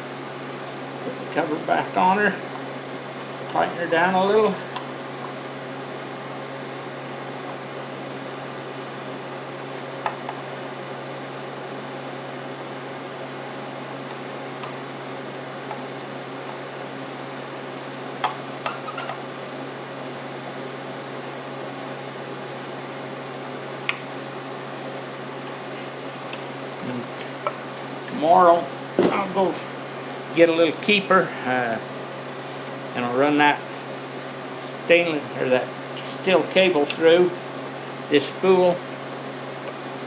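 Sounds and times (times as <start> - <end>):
room hum: 0.0 - 40.0.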